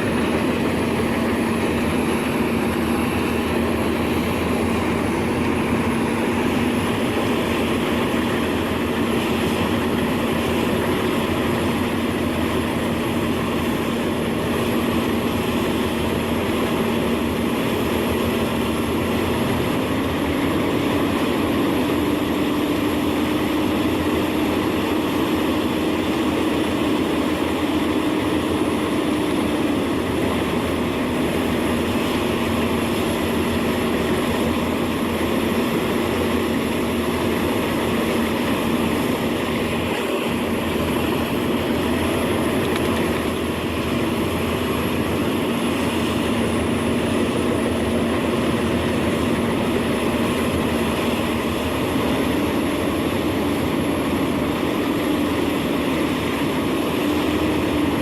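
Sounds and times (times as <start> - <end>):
wood chipper running: 0.0 - 58.0.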